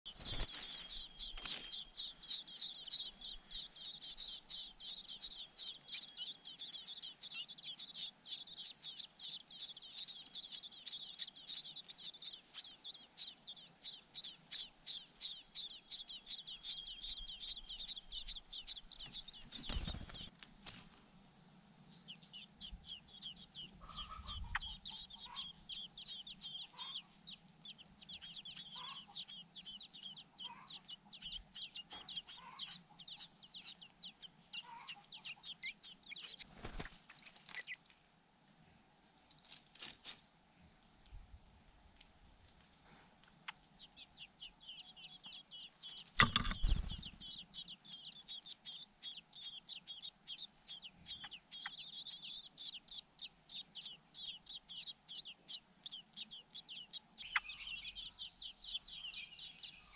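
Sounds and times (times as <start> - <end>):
nestlings cheeping: 0.1 - 20.3, 21.9 - 38.3, 43.3 - 59.9.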